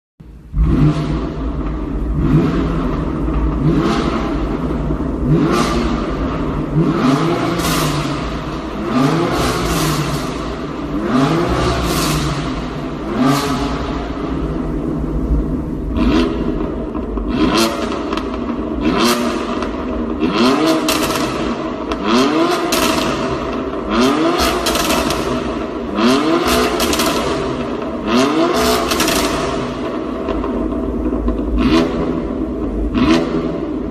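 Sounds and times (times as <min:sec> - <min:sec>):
car engine revving: 0:00.2 - 0:33.9
exhaust crackling: 0:00.2 - 0:33.9.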